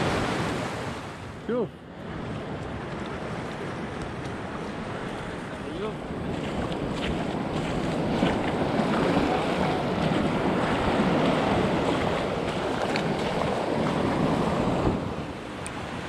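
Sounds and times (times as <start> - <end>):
wind buffeting microphone: 1.9 - 16.0
sea waves washing over rock: 2.0 - 16.0.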